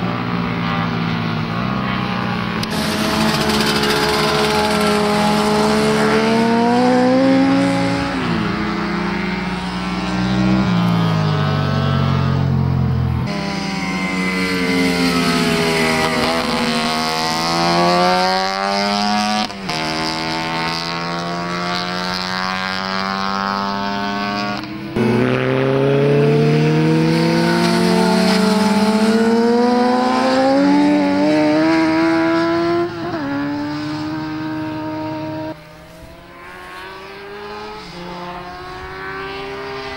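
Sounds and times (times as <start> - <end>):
motorcycles revving past: 0.0 - 39.9.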